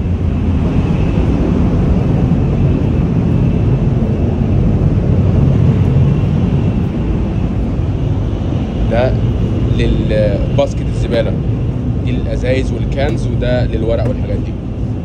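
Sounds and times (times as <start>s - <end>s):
faint high whine: 0.0s - 15.0s
train rumbling at speed: 0.0s - 15.0s.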